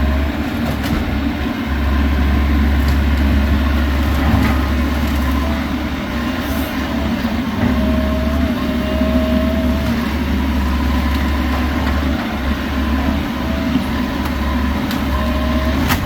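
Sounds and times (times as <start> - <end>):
excavator diesel engine running: 0.0 - 16.0
whining tone: 1.6 - 16.0.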